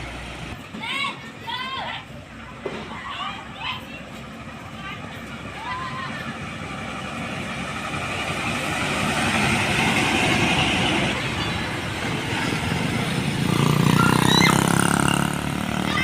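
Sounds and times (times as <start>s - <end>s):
road vehicles passing: 0.0s - 16.0s.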